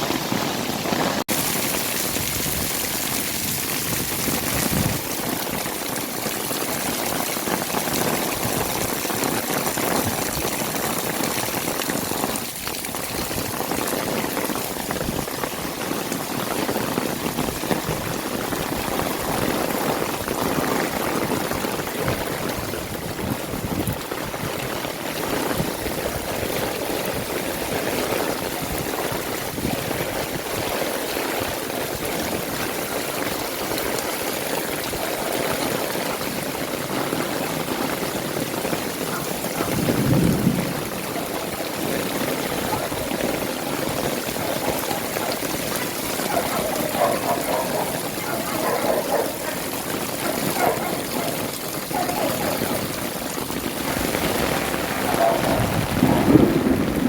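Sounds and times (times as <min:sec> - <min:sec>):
heavy rain falling: 0:00.0 - 0:57.0
water pouring and running: 0:00.0 - 0:57.0.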